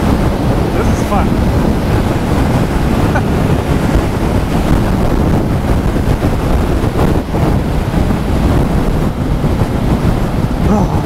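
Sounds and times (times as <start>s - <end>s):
motorcycle engine: 0.0s - 11.0s
road noise: 0.0s - 11.0s
wind rush on microphone: 0.0s - 11.0s.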